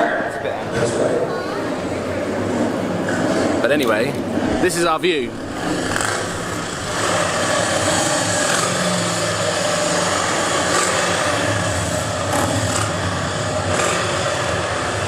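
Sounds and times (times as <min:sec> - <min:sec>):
distant racing car engine: 0:00.0 - 0:15.0
motorcycles rumbling: 0:00.0 - 0:15.0.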